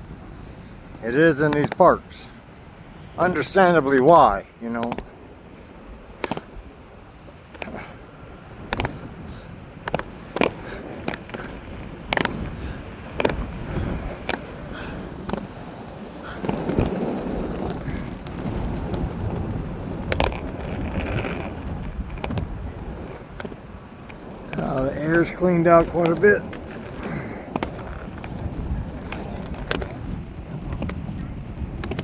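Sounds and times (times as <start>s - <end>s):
roller skate wheels rumbling: 0.0s - 32.0s.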